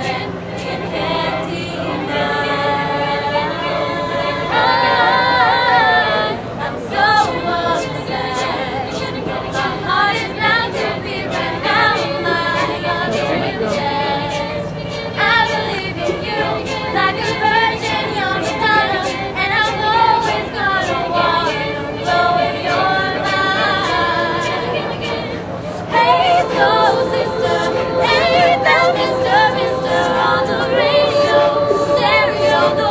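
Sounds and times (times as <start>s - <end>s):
mixed choir singing a cappella: 0.0s - 32.9s.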